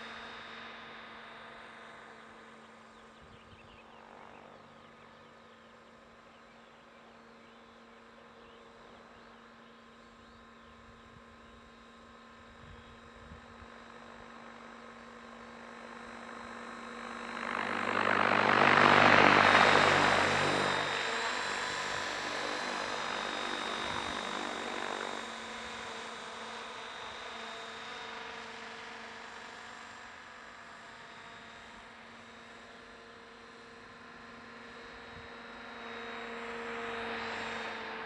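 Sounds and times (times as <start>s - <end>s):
model helicopter rotor whine: 0.0s - 38.0s.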